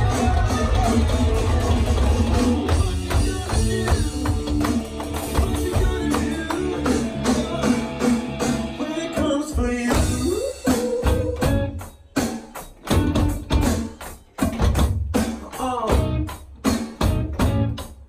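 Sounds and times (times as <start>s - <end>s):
funk-rock song with singing: 0.0s - 17.9s
electronic drums: 0.0s - 18.0s.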